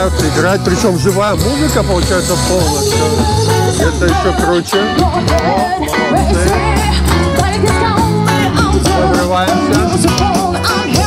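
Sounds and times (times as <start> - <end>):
live band playing amplified music: 0.0 - 11.0.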